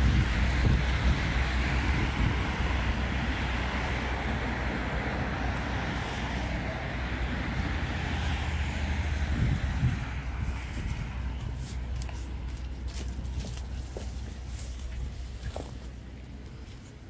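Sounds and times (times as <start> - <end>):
traffic noise: 0.0 - 17.0
wind rumble on microphone: 0.0 - 17.0.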